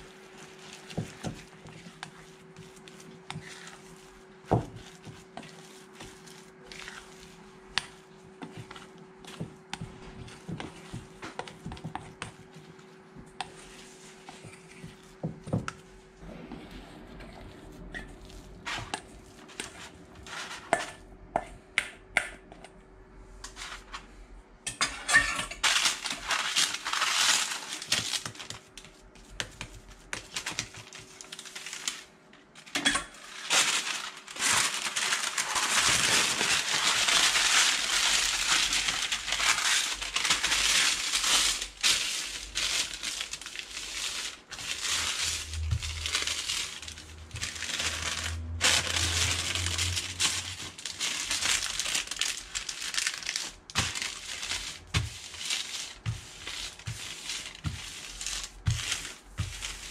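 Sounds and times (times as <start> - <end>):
baking paper crinkling: 0.0 - 20.8, 25.6 - 59.9.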